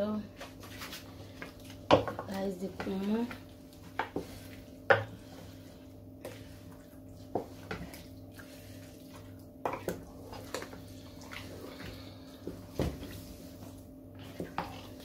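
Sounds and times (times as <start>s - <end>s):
steady low hum: 0.0s - 15.0s
spoon stirring wet soup: 0.3s - 15.0s.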